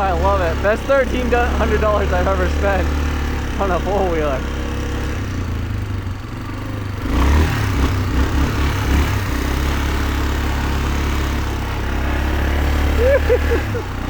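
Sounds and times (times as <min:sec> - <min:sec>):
atv engine running under load: 0:00.0 - 0:14.0.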